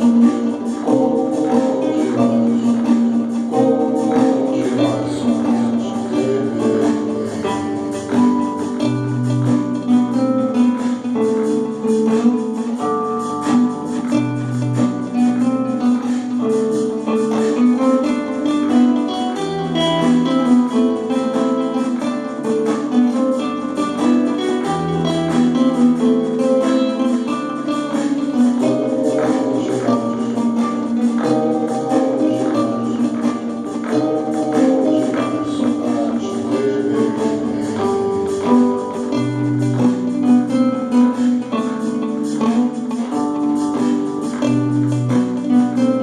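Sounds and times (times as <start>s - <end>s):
acoustic guitar playing: 0.0s - 46.0s
drum machine beat: 0.0s - 46.0s.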